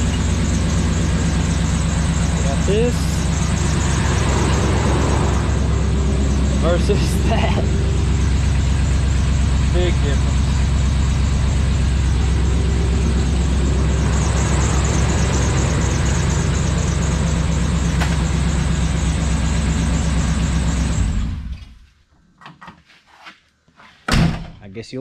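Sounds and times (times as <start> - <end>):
engine running with hum and hiss: 0.0 - 21.8.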